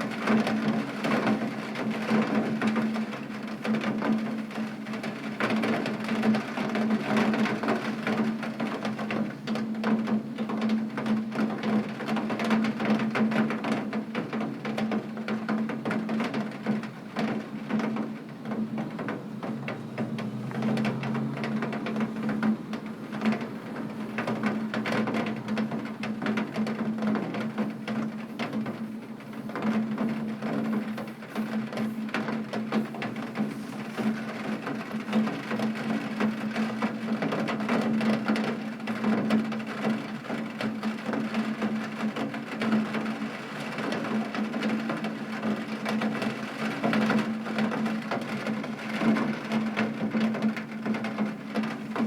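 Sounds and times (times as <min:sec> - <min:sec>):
rain drumming on a tin roof: 0:00.0 - 0:52.0.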